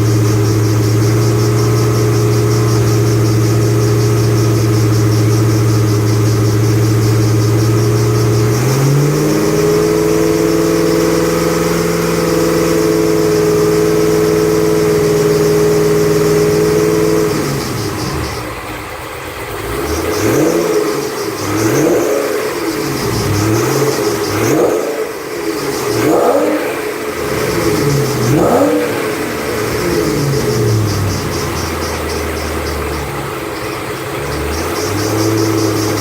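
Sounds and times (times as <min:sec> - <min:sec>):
car engine running: 0:00.0 - 0:36.0
engine throttle blips: 0:00.0 - 0:36.0.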